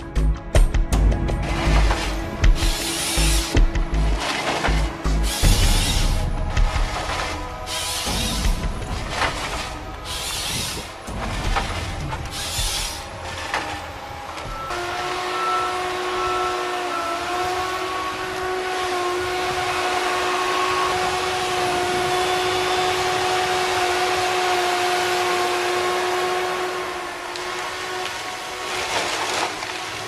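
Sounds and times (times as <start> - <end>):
harvester machine running: 0.0 - 30.0
high machinery whine: 1.0 - 30.0.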